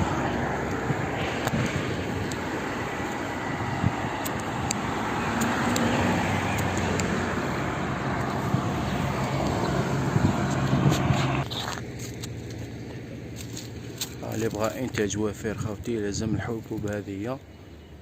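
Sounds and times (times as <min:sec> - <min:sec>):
low engine hum: 0:00.0 - 0:16.2
traffic rush: 0:00.0 - 0:18.0.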